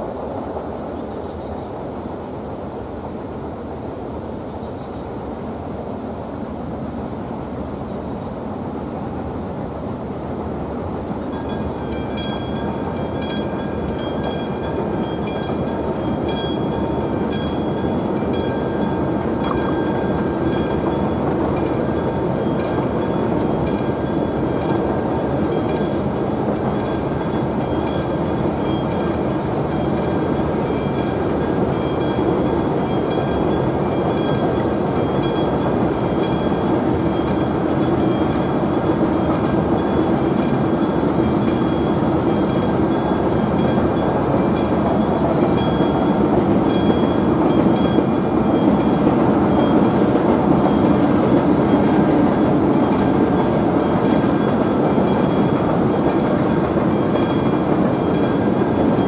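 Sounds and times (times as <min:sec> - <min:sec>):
approaching train rumble: 0:00.0 - 0:59.0
level crossing bell ringing: 0:11.4 - 0:59.0.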